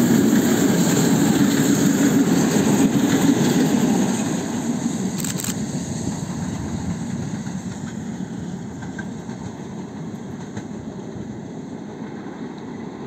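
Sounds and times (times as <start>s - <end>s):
steam train rumbling: 0.0s - 13.0s.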